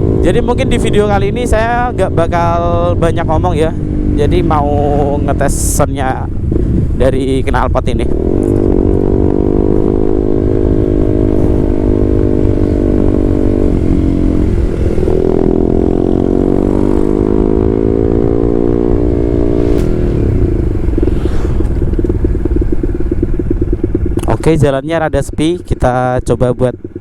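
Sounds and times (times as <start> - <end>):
motorcycle engine exhaust: 0.0 - 27.0.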